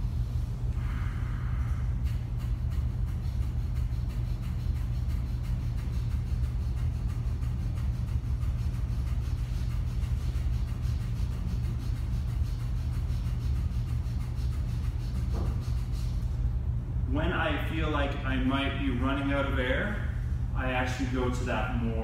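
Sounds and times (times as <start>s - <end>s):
air conditioner hum: 0.0s - 22.0s.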